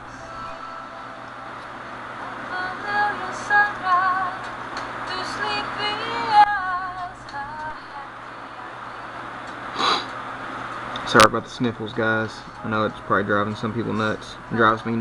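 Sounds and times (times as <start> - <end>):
music with high wavering vocals: 0.0 - 9.0, 11.8 - 15.0.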